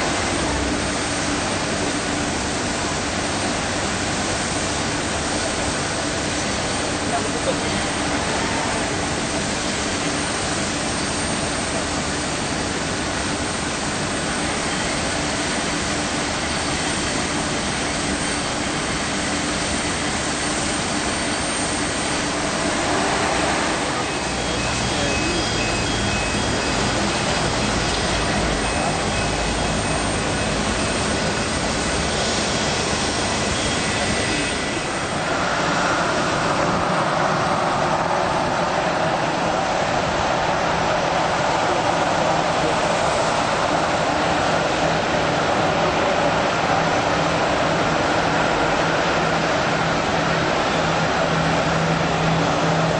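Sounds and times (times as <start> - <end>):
jet engine rushing and whining: 0.0 - 52.9.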